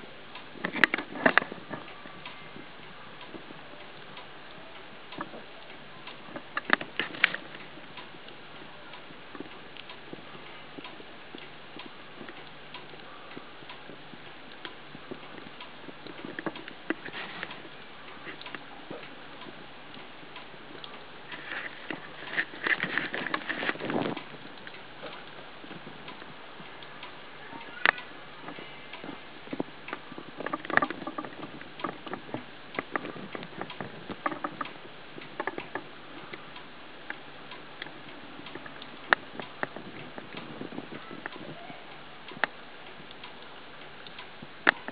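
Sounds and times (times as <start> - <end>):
faint steady hum: 0.0 - 44.9
steady hiss: 0.0 - 44.9
light clicks and ticks: 0.3 - 44.9.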